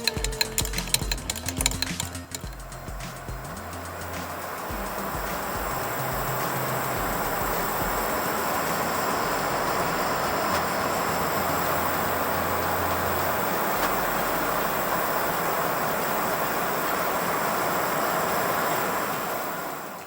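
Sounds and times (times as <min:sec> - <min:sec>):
stove burner rushing: 0:00.0 - 0:20.0.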